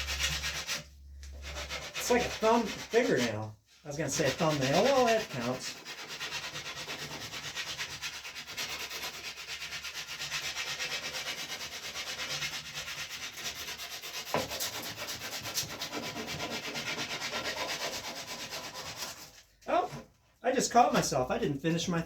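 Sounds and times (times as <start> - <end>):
sandpaper scraping wood: 0.0 - 19.5.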